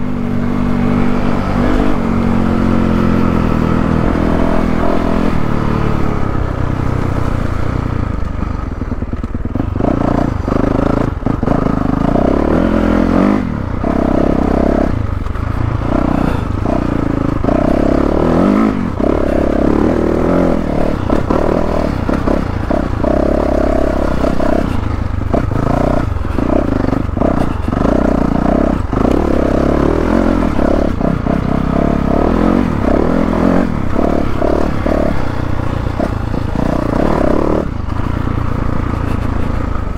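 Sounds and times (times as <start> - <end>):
dirt bike engine revving: 0.0 - 7.7, 8.9 - 39.9.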